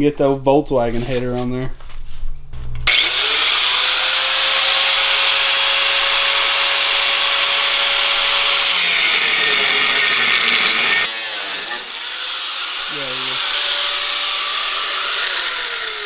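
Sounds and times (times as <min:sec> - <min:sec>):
angle grinder cutting steel: 0:02.8 - 0:16.0
grinder motor whine: 0:02.8 - 0:16.0.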